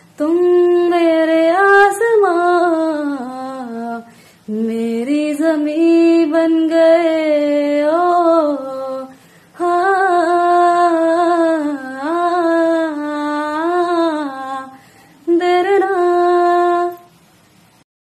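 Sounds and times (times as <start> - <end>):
woman singing unaccompanied: 0.0 - 17.2.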